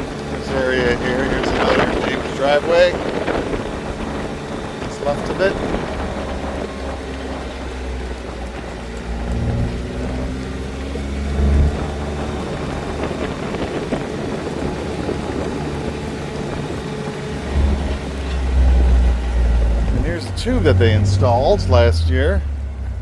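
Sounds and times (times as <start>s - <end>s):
car engine hum: 0.0s - 23.0s
road noise: 0.0s - 23.0s.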